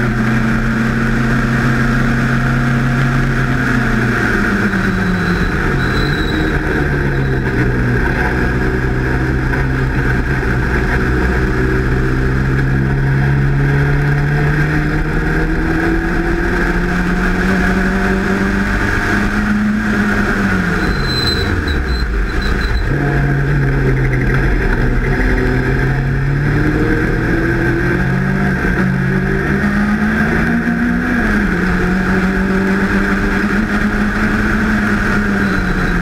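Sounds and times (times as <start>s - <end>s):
racing car engine revving: 0.0s - 36.0s.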